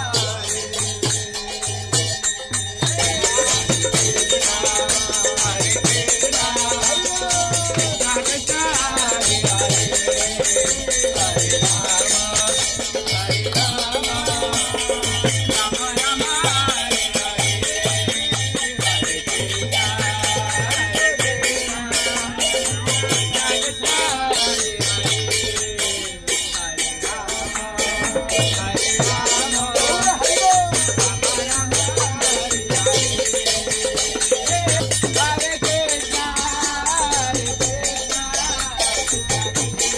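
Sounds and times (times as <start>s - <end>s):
group singing: 0.0s - 39.9s
hand cymbals clashing: 0.0s - 39.9s.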